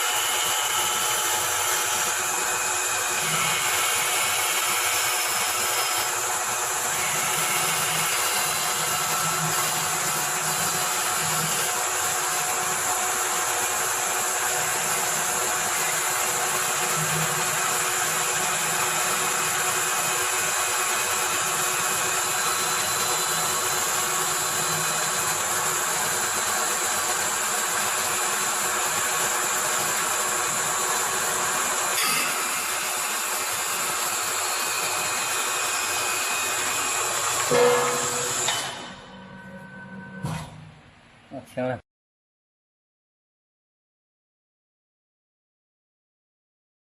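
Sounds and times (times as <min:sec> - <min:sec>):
wood lathe cutting with whine: 0:00.0 - 0:38.8.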